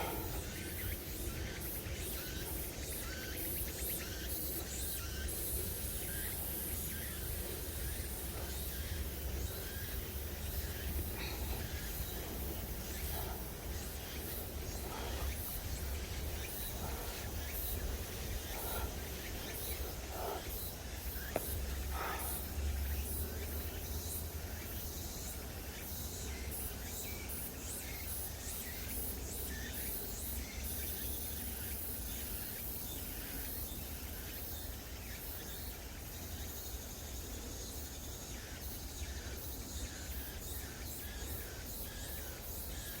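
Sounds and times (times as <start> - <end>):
insects calling in pulses: 0.0 - 43.0.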